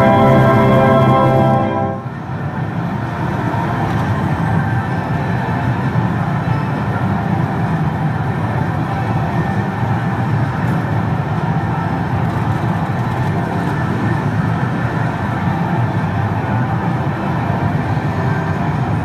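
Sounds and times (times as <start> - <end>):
muffled din of gaming machines: 0.0 - 19.0.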